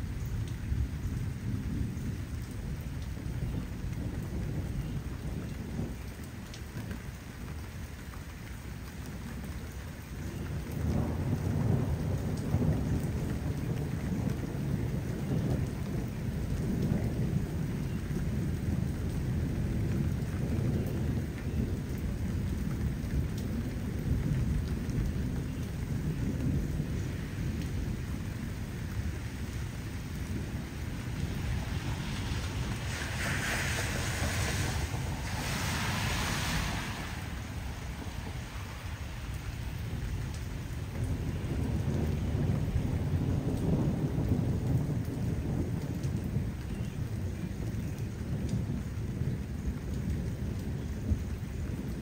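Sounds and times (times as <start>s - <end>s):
rolling thunder: 0.0s - 7.7s, 9.4s - 52.0s
steady rain falling: 0.0s - 52.0s.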